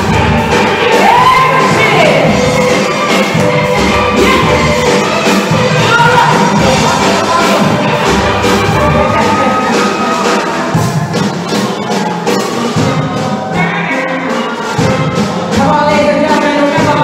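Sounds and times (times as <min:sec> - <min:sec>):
driving percussion beat: 0:00.0 - 0:17.0.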